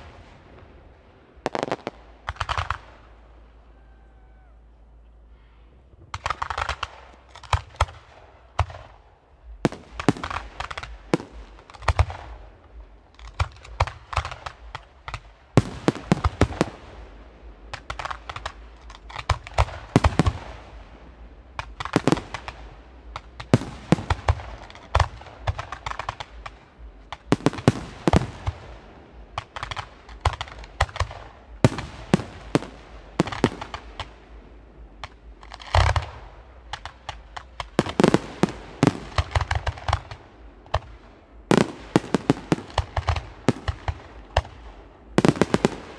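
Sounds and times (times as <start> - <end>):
fireworks launching and bursting: 0.0 - 3.4, 6.0 - 45.9.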